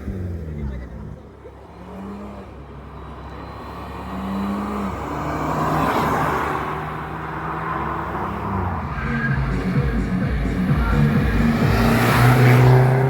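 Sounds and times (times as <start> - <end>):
car driving past: 0.0 - 13.0.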